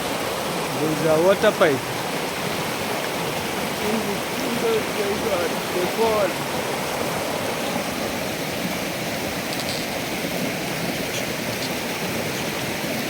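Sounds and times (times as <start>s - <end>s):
river flowing: 0.0s - 13.0s
waterfall rushing: 0.0s - 13.0s.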